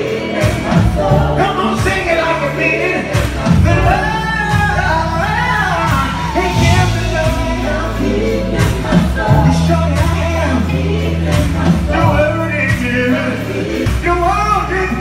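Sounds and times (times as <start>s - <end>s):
gospel choir singing: 0.0s - 15.0s
live band with bass and beat: 0.0s - 15.0s.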